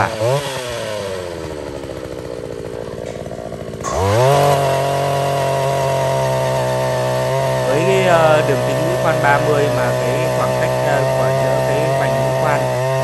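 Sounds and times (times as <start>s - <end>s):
earth auger engine running: 0.0s - 13.0s.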